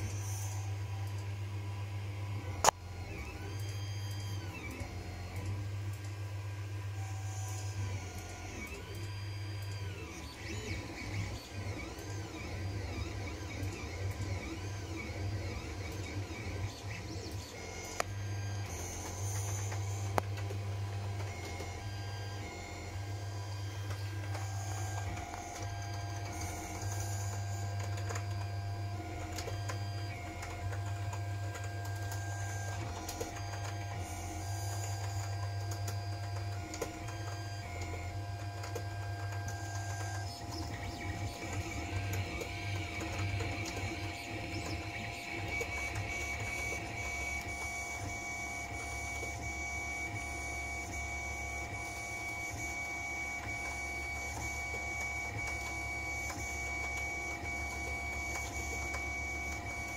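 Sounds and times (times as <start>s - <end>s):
stepper motors whining: 0.0s - 59.9s.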